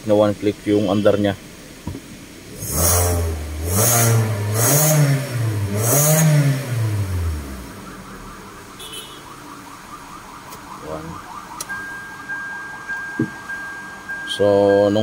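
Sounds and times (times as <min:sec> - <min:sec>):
car engine revving and idling: 0:02.2 - 0:15.0.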